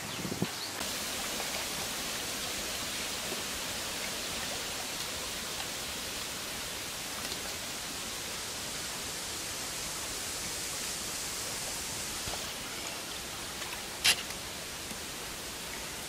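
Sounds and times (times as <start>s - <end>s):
wind rushing through trees: 0.0s - 16.0s.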